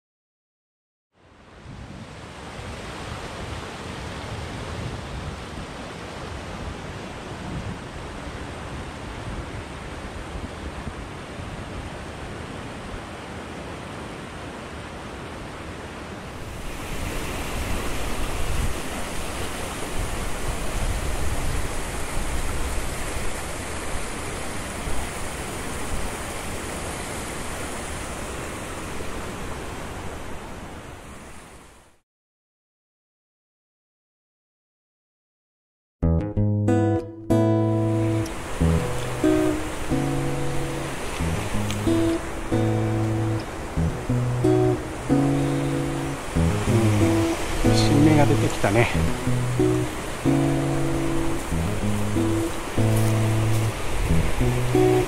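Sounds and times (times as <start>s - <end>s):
mountain stream rushing: 1.2s - 32.0s, 37.3s - 55.0s.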